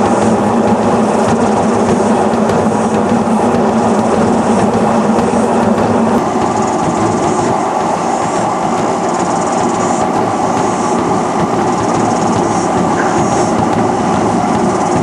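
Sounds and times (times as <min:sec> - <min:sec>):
washing machine clattering and knocking: 0:00.0 - 0:15.0.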